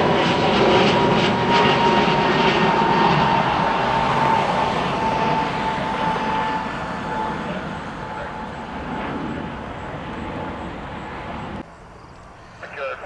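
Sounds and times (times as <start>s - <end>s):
jet engine whine: 0.0s - 13.0s.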